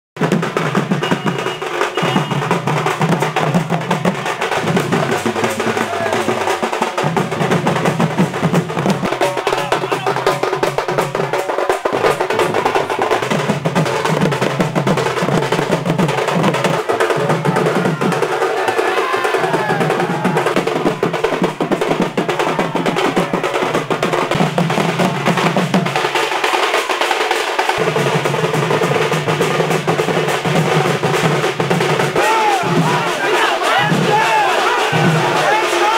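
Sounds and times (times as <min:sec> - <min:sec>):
marching drums beating: 0:00.2 - 0:35.9.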